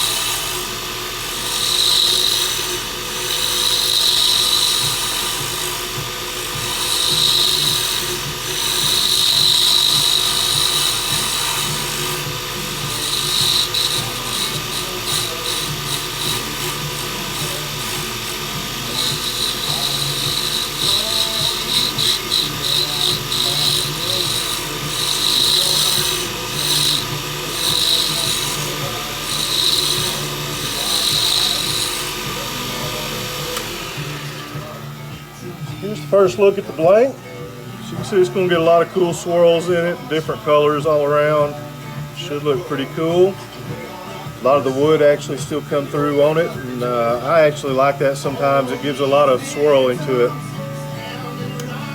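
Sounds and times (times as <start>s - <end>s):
tool scraping spinning wood: 0.0s - 50.9s
wood lathe running: 0.0s - 51.9s.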